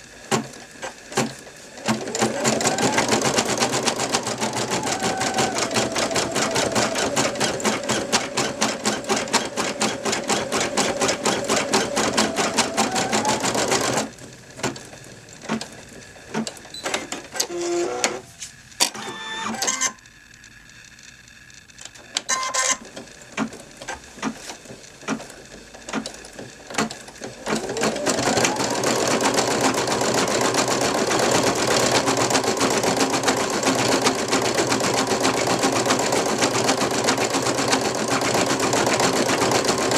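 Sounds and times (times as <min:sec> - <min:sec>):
embroidery machine stitching: 0:00.0 - 0:20.0, 0:21.8 - 0:39.9
machine clicks: 0:00.3 - 0:18.2, 0:18.8 - 0:39.9.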